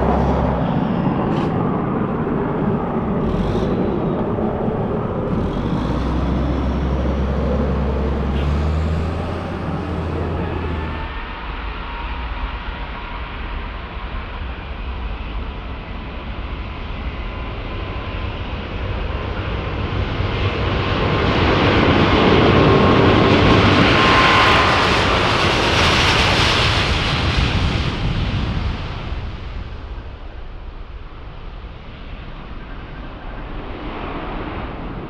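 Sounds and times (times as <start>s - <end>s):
aircraft engine passing by: 0.0s - 11.4s, 18.2s - 35.0s.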